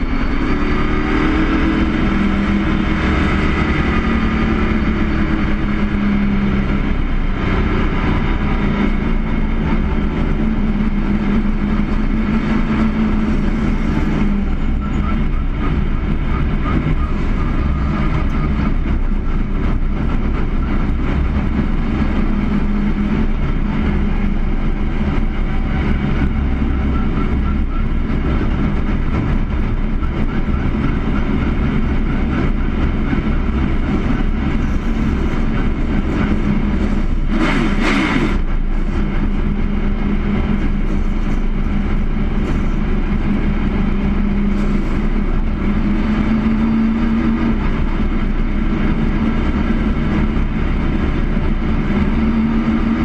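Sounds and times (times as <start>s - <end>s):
race car engine running: 0.0s - 53.0s.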